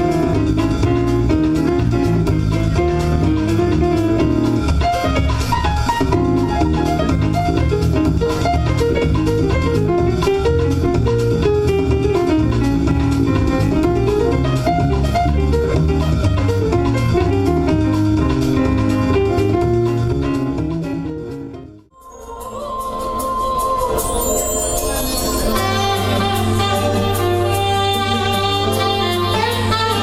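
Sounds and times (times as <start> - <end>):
instrumental background music: 0.0 - 30.0.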